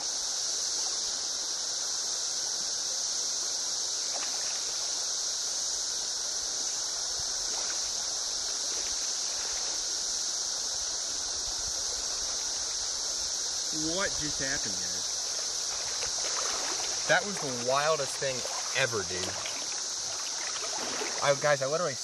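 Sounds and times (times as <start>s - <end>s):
cicada chorus drone: 0.0s - 22.0s
flowing river: 0.0s - 22.0s.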